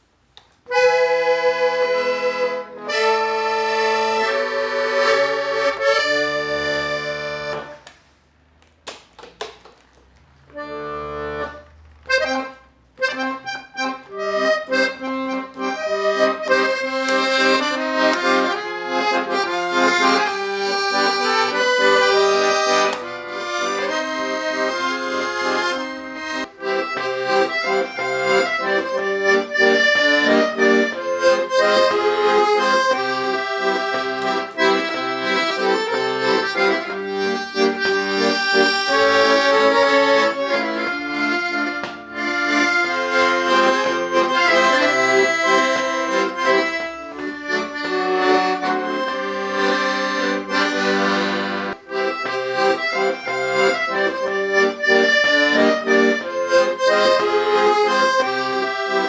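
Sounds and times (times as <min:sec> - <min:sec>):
accordion playing a tune: 0:00.0 - 0:08.6, 0:09.3 - 0:59.0.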